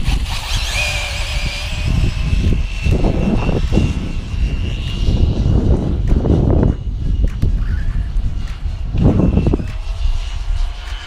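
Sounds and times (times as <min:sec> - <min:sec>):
rc car motor whine: 0:00.0 - 0:11.0
wind rumble on microphone: 0:00.0 - 0:11.0.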